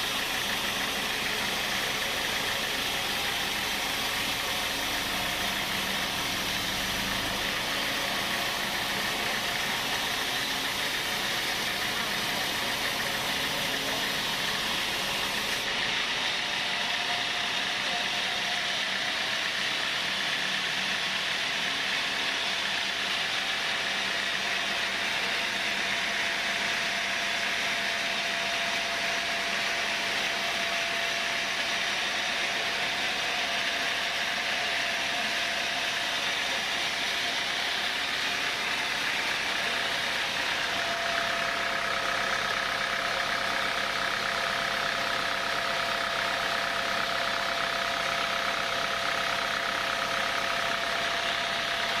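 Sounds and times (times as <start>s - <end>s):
sawmill saw cutting timber: 0.0s - 52.0s.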